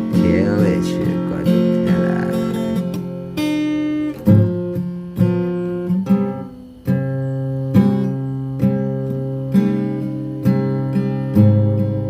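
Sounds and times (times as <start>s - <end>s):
acoustic guitar strummed: 0.0s - 12.0s.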